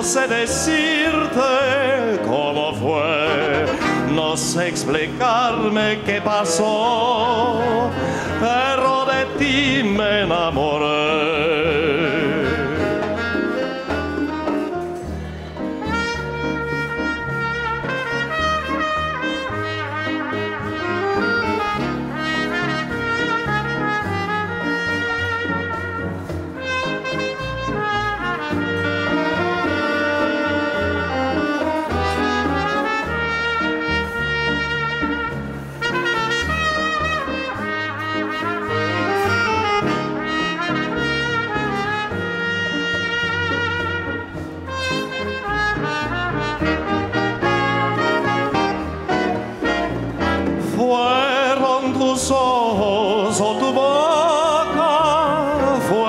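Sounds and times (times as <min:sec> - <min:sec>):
latin dance band playing slow tune: 0:00.0 - 0:56.0.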